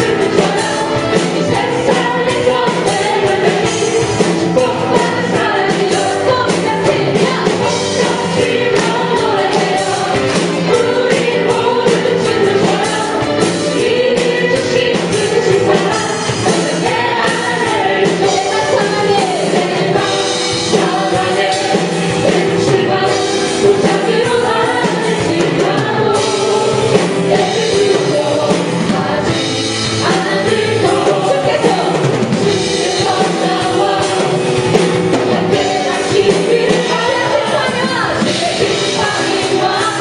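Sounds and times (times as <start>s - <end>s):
singers singing praise song: 0.0s - 40.0s
steady drum beat: 0.0s - 40.0s.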